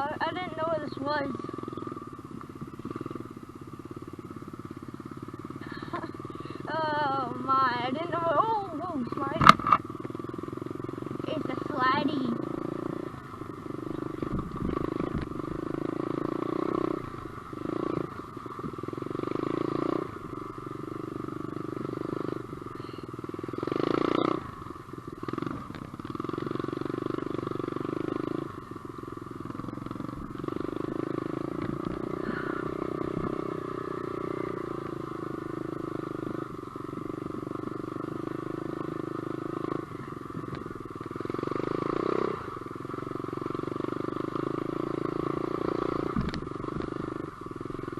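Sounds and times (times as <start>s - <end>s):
pit bike engine revving: 0.0s - 47.9s.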